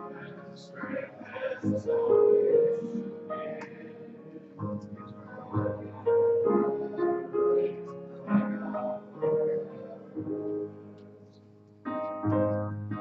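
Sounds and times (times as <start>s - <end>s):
piano playing hymn chords: 0.0s - 13.0s.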